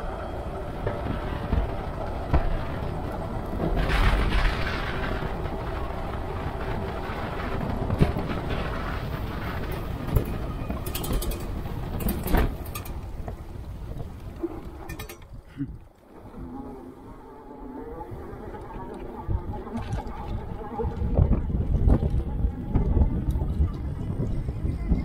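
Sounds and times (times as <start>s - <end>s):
wind rushing on microphone: 0.0s - 25.0s.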